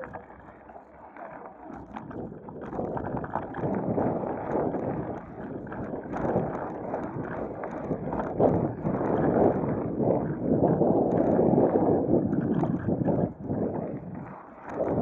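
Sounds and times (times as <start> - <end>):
wind buffeting microphone: 1.7 - 15.0.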